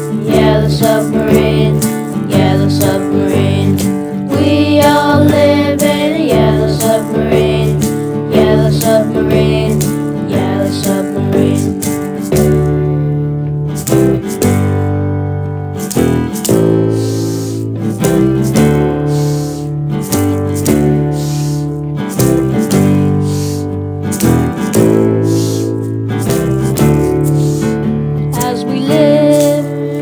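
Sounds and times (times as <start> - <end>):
bass notes: 0.0 - 29.9
shaken rattle: 0.0 - 30.0
strummed guitar: 0.0 - 30.0.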